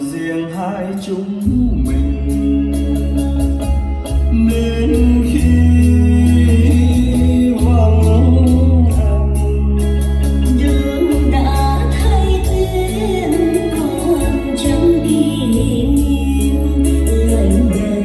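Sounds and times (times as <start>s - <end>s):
song with singing over heavy bass: 0.0s - 18.0s.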